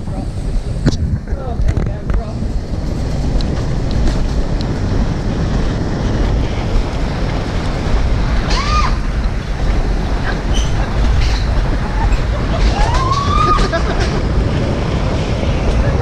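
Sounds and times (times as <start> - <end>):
air rushing over microphone: 0.0 - 16.0
wheels rumbling on track: 0.0 - 16.0.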